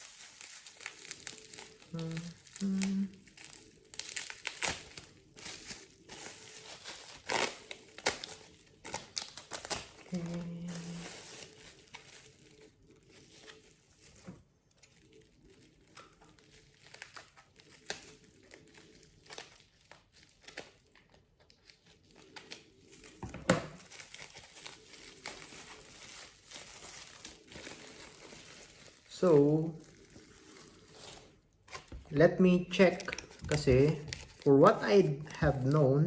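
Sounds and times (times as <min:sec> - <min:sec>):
bubble wrap crinkling: 0:00.0 - 0:36.0.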